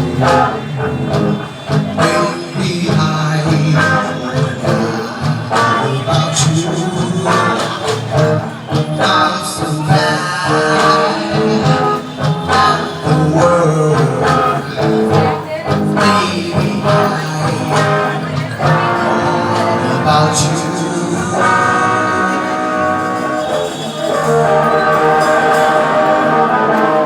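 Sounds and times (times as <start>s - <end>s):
person singing: 0.0s - 27.0s
plucked string instruments: 0.0s - 27.0s.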